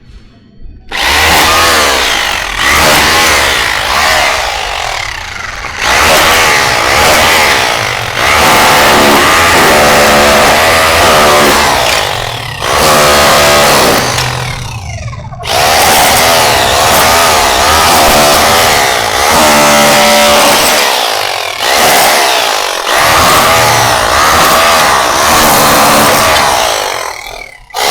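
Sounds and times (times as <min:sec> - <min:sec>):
rotary hammer chiselling tile: 0:00.9 - 0:27.9.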